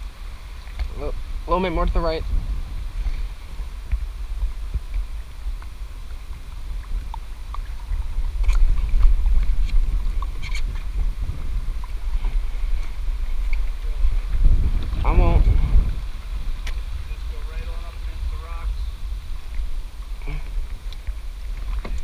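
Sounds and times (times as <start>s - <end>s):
paddle splashes and knocks: 0.0s - 22.0s
wind rumble on microphone: 0.0s - 22.0s.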